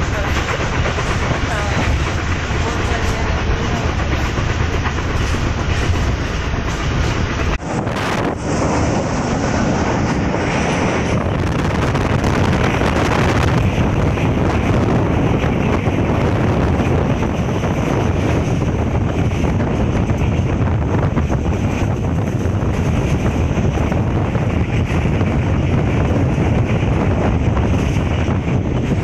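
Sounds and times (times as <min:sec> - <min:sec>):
moving train rumble: 0:00.0 - 0:29.0
wind rushing over microphone: 0:00.0 - 0:29.0.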